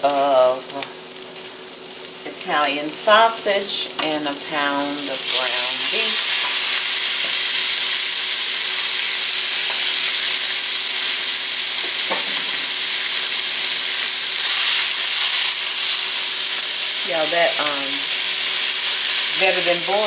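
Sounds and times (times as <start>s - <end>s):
meat sizzling in a skillet: 0.0s - 20.0s.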